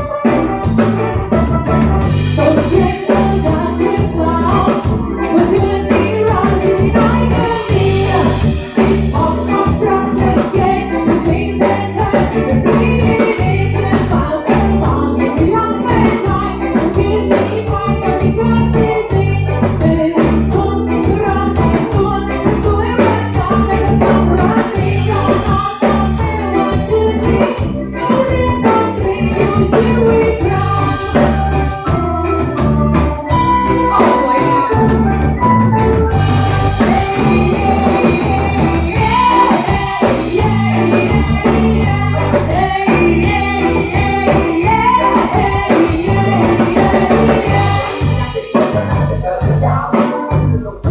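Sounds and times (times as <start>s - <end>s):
music with singing and beat: 0.0s - 50.9s.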